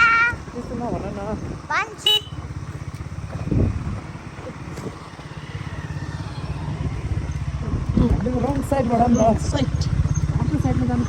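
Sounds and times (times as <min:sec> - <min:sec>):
motorcycle engine pulsing: 0:00.4 - 0:11.0.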